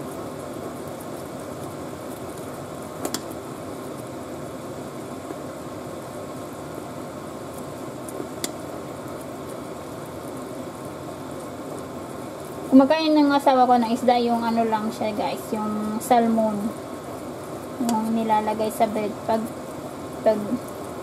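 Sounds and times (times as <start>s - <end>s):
rice simmering in a pot: 0.0s - 21.0s
steady hiss: 0.0s - 21.0s.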